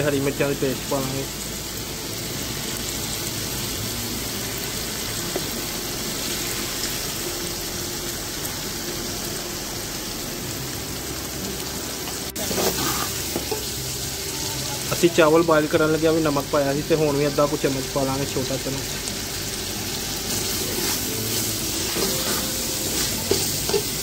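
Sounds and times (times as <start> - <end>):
peas sizzling in hot oil: 0.0 - 24.0.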